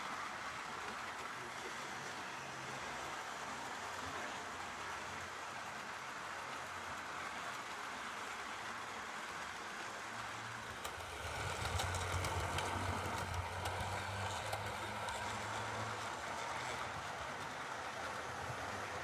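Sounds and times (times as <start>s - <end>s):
wheels clicking over rail joints: 3.3s - 19.0s.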